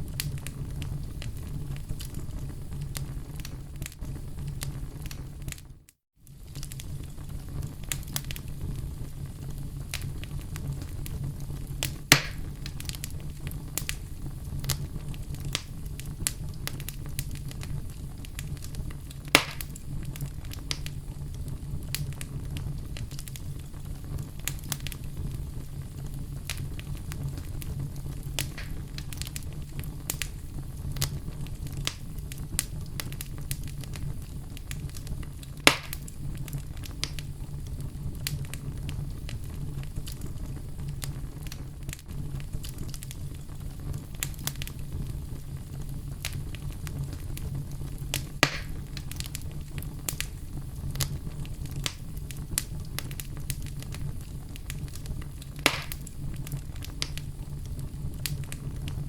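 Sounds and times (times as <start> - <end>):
loud fire snaps: 0.0 - 59.0
wood fire crackling: 0.0 - 59.0.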